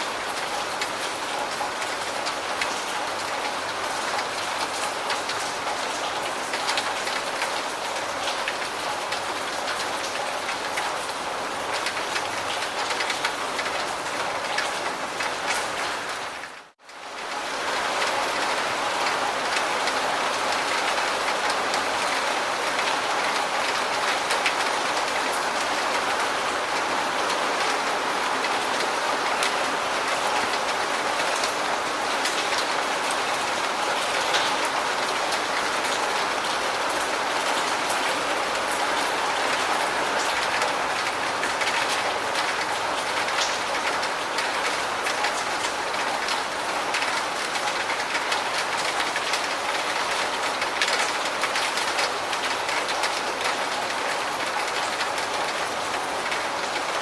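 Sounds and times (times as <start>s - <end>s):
rain falling: 0.0s - 57.0s
raindrops ticking close by: 0.0s - 57.0s.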